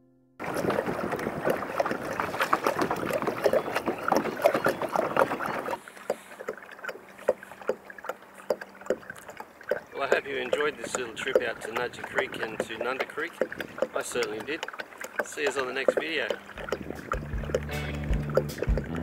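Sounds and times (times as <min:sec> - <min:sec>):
water splashing against kayak hull: 0:00.4 - 0:19.0.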